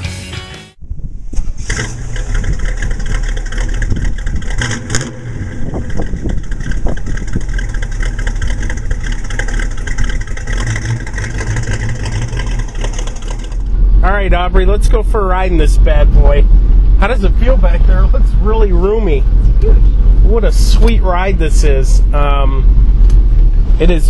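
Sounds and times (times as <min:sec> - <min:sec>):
car engine through exhaust: 0:00.8 - 0:24.0.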